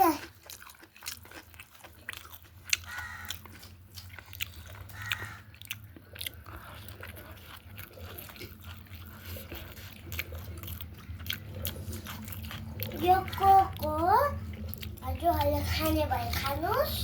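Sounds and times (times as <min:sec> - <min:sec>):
low steady hum: 0:00.0 - 0:17.0
person chewing crunchy food: 0:00.0 - 0:17.0.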